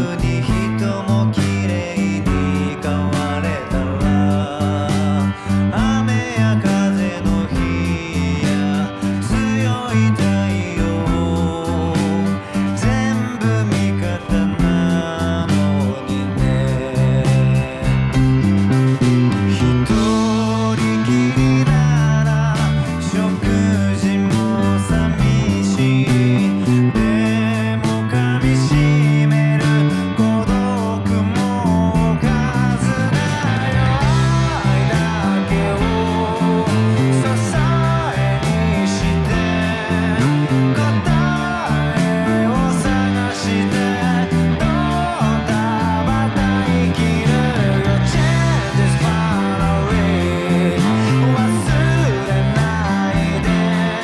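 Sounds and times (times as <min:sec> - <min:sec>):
electric bass line: 0:00.0 - 0:54.0
rock music with drums and guitars: 0:00.0 - 0:54.0.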